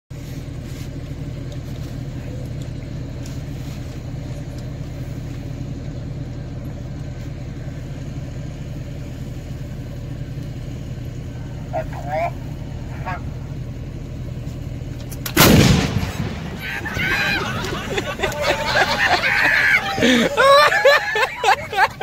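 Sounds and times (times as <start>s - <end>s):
truck engine idling: 0.1s - 22.0s.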